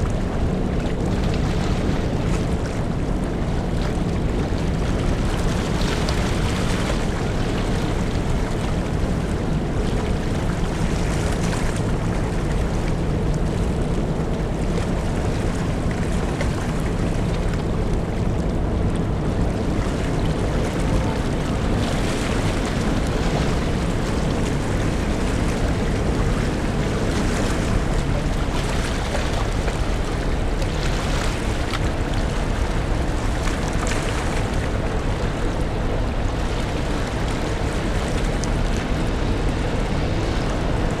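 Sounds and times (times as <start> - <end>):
ferry engine hum: 0.0 - 41.0
rushing water: 0.0 - 41.0
wind noise on microphone: 0.0 - 41.0.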